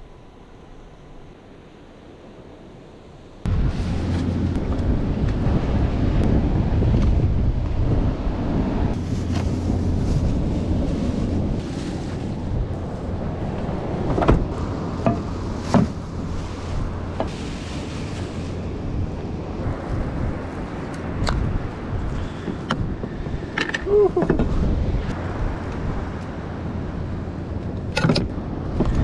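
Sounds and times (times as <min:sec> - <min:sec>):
wind buffeting microphone: 0:03.4 - 0:29.0.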